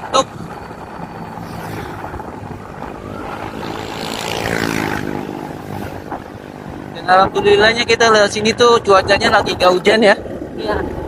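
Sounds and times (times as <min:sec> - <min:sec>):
motorcycle engine: 0:00.0 - 0:11.0
road and wind noise: 0:00.0 - 0:11.0.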